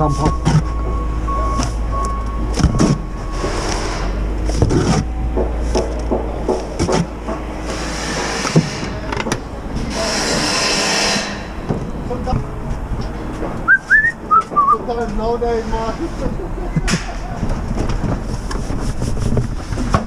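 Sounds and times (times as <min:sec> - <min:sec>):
knocks and gritty scrapes: 0:00.0 - 0:13.7, 0:14.4 - 0:20.0.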